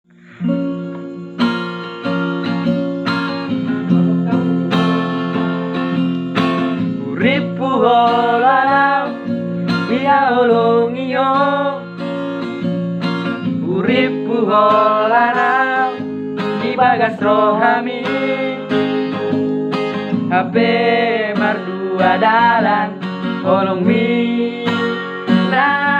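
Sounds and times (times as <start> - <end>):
acoustic guitar strumming: 0.1 - 25.9
person singing wordless melody: 3.4 - 12.4, 13.4 - 19.6, 20.2 - 25.9.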